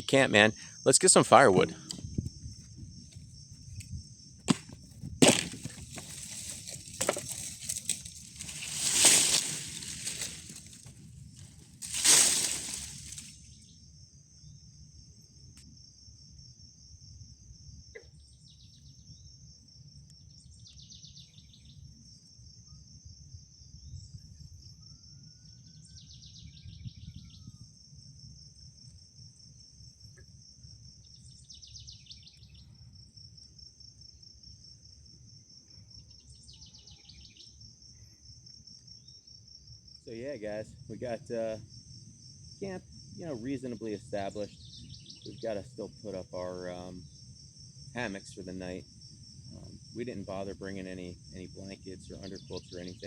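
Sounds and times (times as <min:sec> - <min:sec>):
insects trilling: 0:00.0 - 0:53.0
pulsing insect call: 0:00.0 - 0:53.0.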